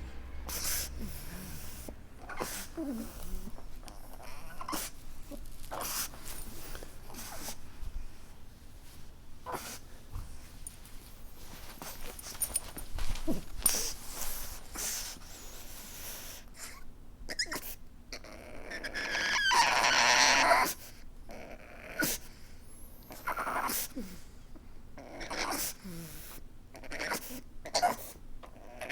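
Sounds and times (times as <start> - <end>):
dog sniffing and whimpering: 0.5 - 8.1, 8.8 - 22.4, 23.0 - 24.4, 25.0 - 28.9.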